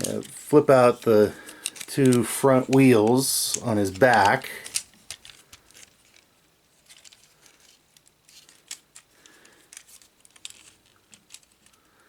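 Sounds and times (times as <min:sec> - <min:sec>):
plastic toy clicks and handling: 0:00.0 - 0:11.9.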